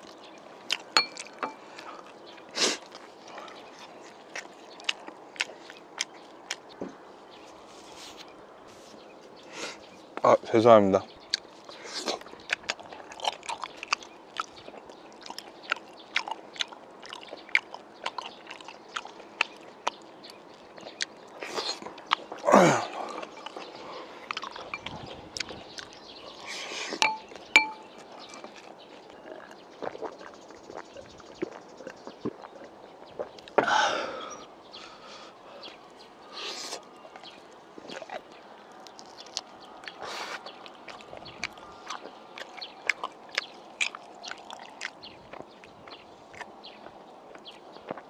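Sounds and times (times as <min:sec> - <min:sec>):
chewing and mouth clicks: 0:00.0 - 0:10.2, 0:11.1 - 0:33.6, 0:35.6 - 0:48.0.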